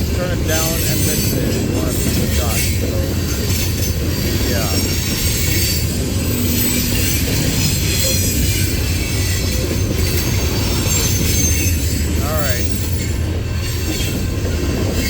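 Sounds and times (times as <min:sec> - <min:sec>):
freight wheels rumbling on rail: 0:00.0 - 0:15.0
high thin wheel squeal: 0:00.6 - 0:14.2.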